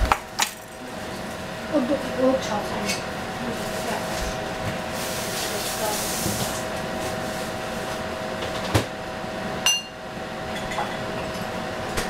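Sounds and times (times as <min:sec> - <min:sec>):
kitchen hum: 0:00.0 - 0:12.0.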